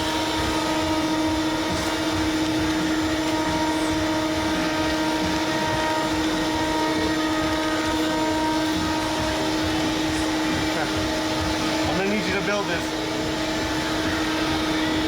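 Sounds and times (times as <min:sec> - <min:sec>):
electric machine humming: 0:00.0 - 0:15.0.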